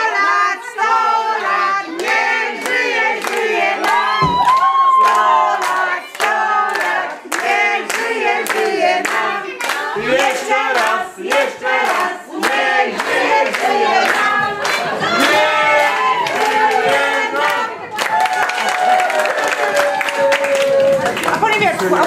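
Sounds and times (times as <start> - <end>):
group singing: 0.0 - 18.2
people clapping in time: 2.0 - 22.0.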